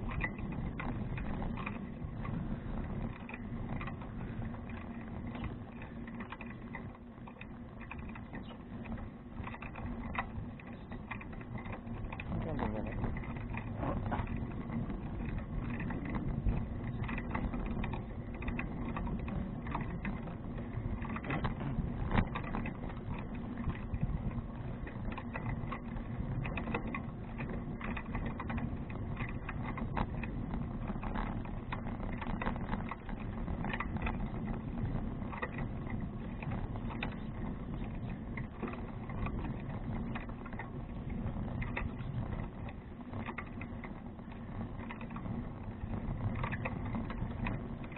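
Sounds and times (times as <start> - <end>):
bicycle rolling: 0.0 - 47.9
bike clicks and rattles: 0.0 - 47.9.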